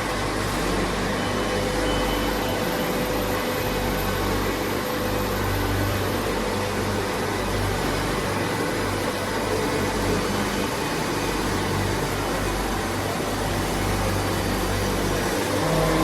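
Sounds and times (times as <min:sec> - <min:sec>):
lathe humming and whirring: 0:00.0 - 0:16.0
low electrical hum: 0:00.0 - 0:16.0.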